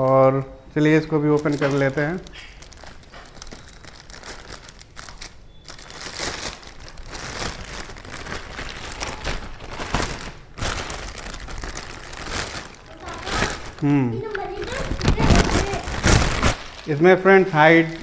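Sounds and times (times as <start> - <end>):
plastic bag crinkling: 1.3 - 18.0.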